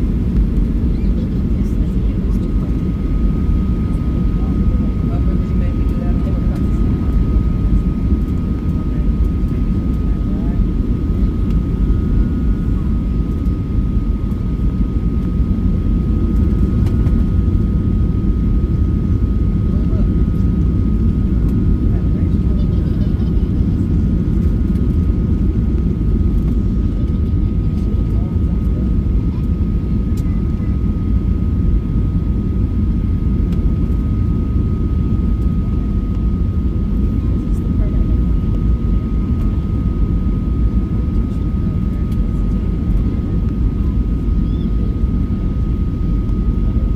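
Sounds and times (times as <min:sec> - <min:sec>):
airliner engine rumble: 0:00.0 - 0:46.9.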